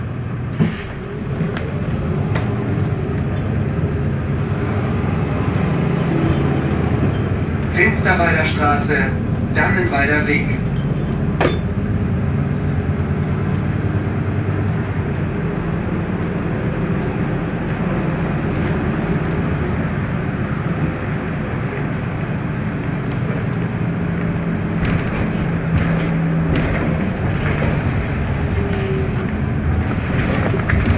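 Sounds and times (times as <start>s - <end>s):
bus drivetrain hum: 0.0s - 30.9s
road and cabin noise: 0.0s - 30.9s.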